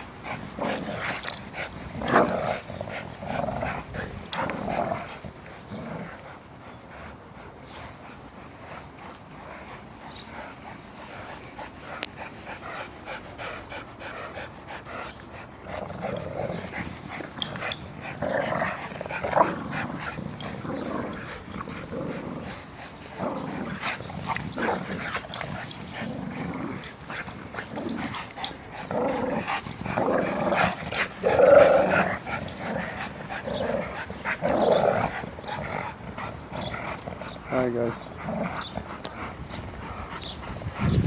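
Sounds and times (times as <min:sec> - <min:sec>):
dogs growling and scuffling: 0:00.0 - 0:41.0.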